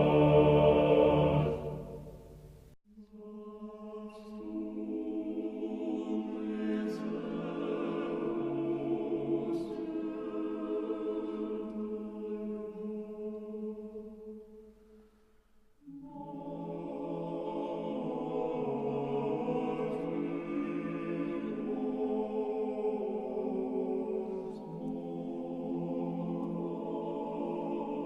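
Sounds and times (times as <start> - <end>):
choir singing slow chant: 0.0 - 2.2, 3.0 - 15.0, 15.8 - 28.0.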